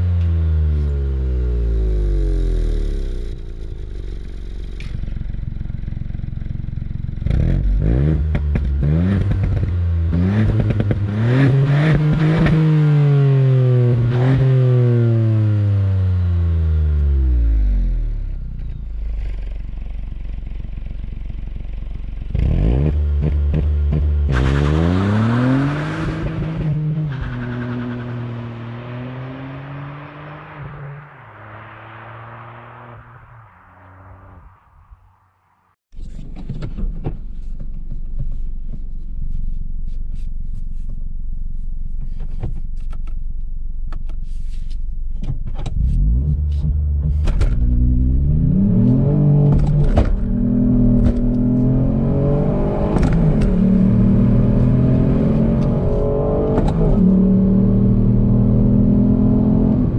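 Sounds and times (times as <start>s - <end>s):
car pulling away: 0.0s - 35.2s, 45.6s - 59.9s
car engine revving: 0.0s - 35.7s, 45.6s - 59.9s.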